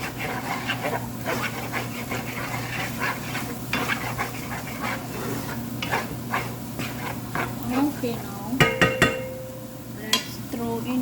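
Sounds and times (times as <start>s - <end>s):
spatula scraping a pan: 0.0s - 9.3s
oil sizzling: 0.0s - 11.0s.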